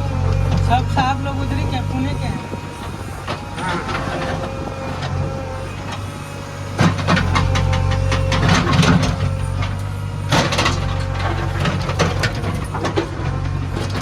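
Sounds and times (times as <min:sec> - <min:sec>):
diesel engine running: 0:00.0 - 0:14.0
clanks and rattles: 0:00.1 - 0:14.0.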